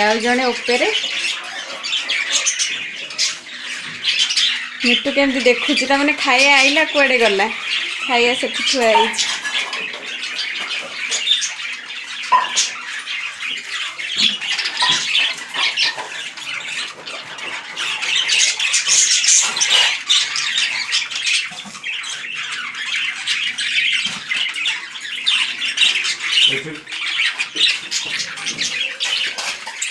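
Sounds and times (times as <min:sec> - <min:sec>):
budgerigars chattering and chirping: 0:00.0 - 0:29.9.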